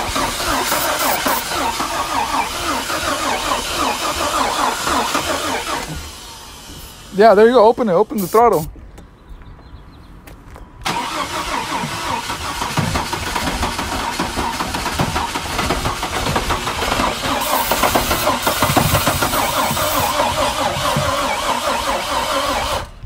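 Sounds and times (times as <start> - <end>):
engine running hard: 0.0 - 8.6, 10.9 - 23.0.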